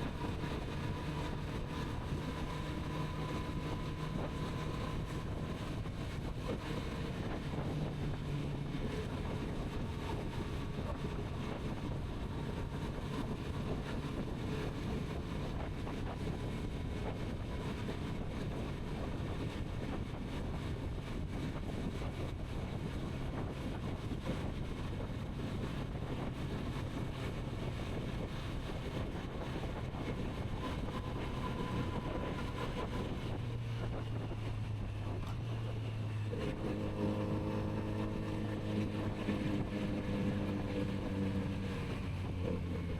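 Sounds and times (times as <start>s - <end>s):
motorcycle engine cruising: 0.0s - 42.9s
wind rush on microphone: 0.0s - 42.9s.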